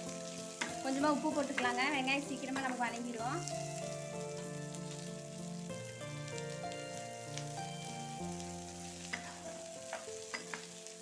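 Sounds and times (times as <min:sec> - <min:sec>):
background music of held notes: 0:00.0 - 0:11.0
onions sizzling in a pan: 0:00.0 - 0:11.0.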